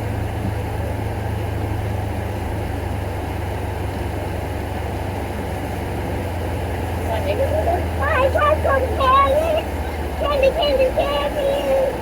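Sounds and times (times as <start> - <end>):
farm vehicle engine running: 0.0 - 12.0.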